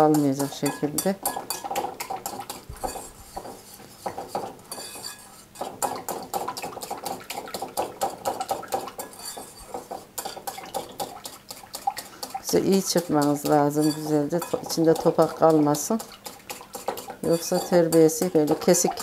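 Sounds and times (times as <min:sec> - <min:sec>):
whisk clinking against glass bowl: 0:00.0 - 0:19.0.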